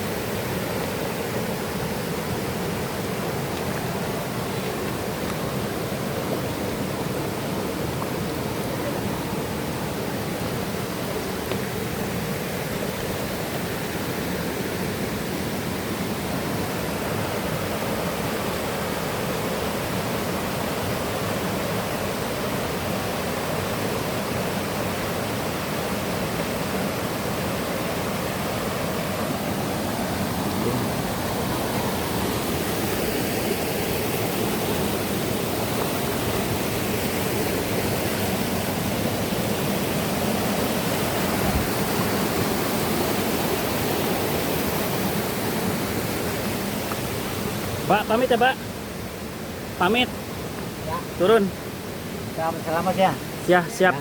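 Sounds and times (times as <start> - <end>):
rushing river and waterfall: 0.0 - 54.0.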